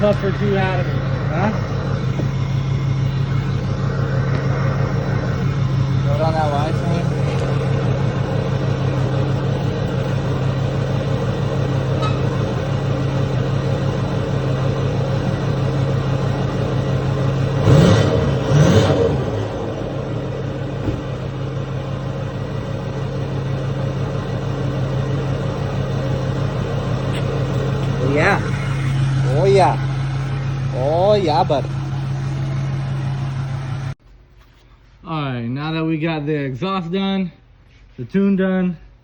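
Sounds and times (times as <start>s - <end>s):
diesel engine idling: 0.0s - 34.0s
engine throttle blips: 0.0s - 34.0s.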